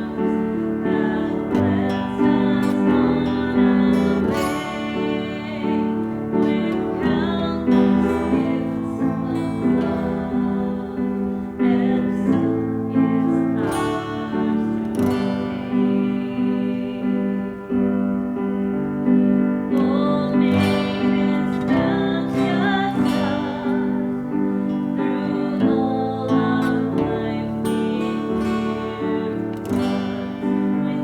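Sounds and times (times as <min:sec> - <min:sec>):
acoustic guitar chords: 0:00.0 - 0:31.0
keyboard: 0:00.0 - 0:31.0.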